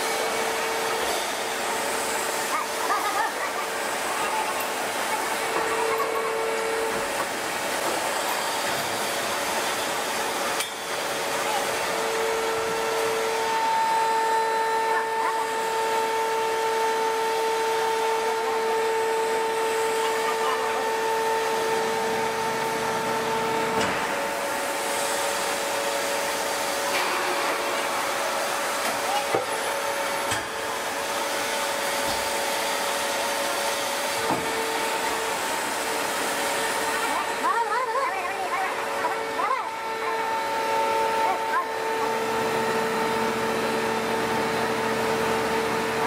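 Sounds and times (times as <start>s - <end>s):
hydraulic press hissing and humming: 0.0s - 46.0s.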